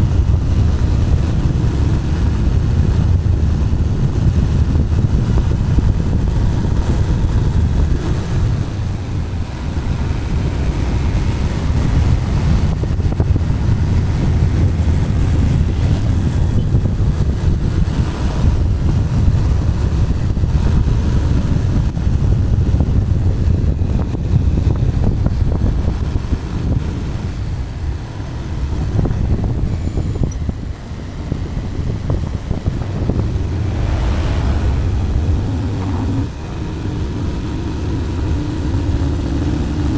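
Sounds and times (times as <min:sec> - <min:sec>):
motorcycle engine rumble: 0:00.0 - 0:39.9
wind buffeting microphone: 0:00.0 - 0:39.9.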